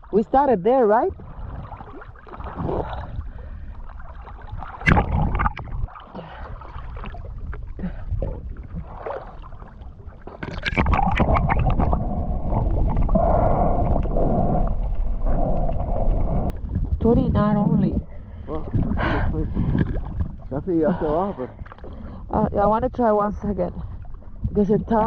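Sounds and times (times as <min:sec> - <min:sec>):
water gurgling and sloshing: 0:00.0 - 0:25.0.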